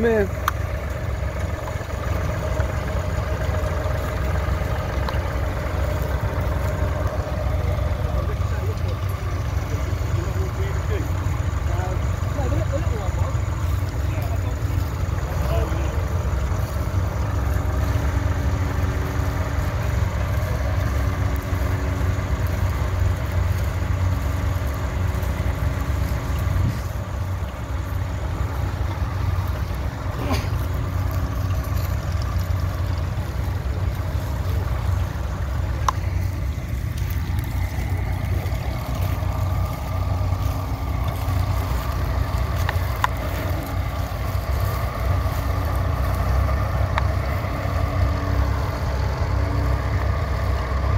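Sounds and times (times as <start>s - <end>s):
tractor engine rumbling: 0.0s - 50.9s.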